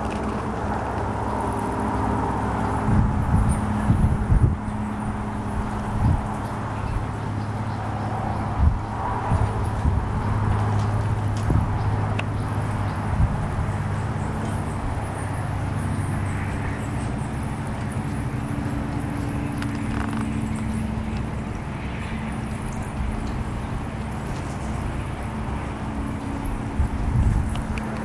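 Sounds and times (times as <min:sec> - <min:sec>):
background hum and rumble: 0:00.0 - 0:28.0.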